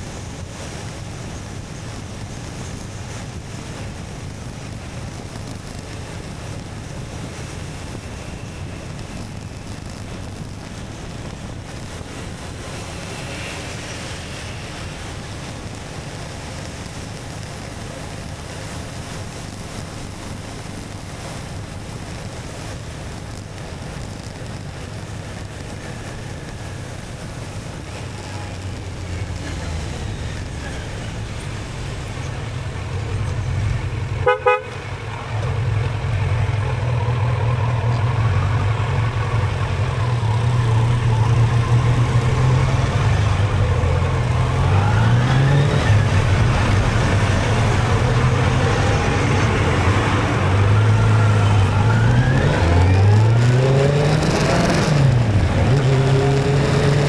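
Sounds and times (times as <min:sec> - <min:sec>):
motorcycle running and road noise: 0:00.0 - 0:57.0
wind rush on microphone: 0:00.0 - 0:57.0.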